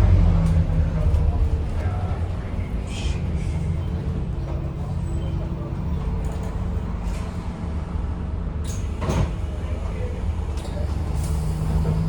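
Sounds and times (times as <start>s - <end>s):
diesel bus engine rumble: 0.0s - 12.0s.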